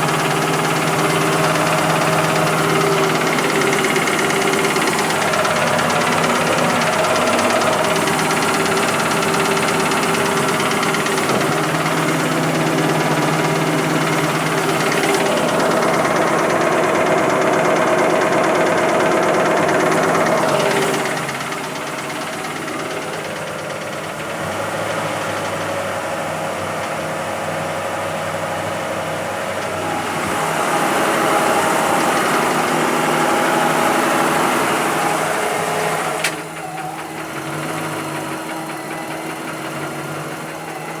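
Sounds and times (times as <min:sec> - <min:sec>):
engine running with knock: 0:00.0 - 0:41.0.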